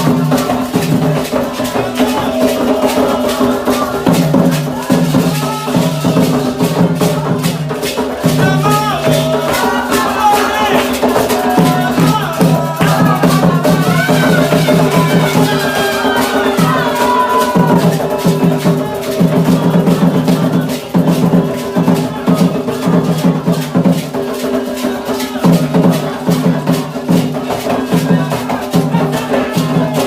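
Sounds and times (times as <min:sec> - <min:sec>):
hand drums: 0:00.0 - 0:30.0
people singing: 0:00.0 - 0:30.0.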